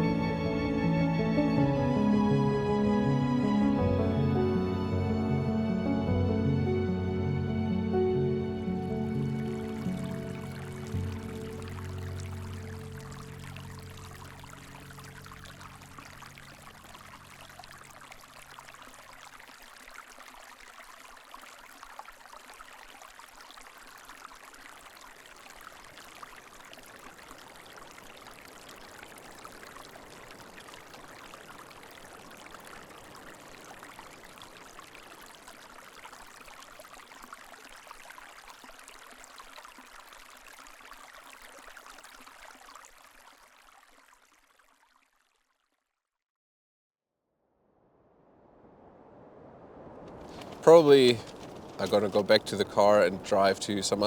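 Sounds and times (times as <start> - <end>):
stream water running: 0.0 - 45.7, 49.8 - 54.0.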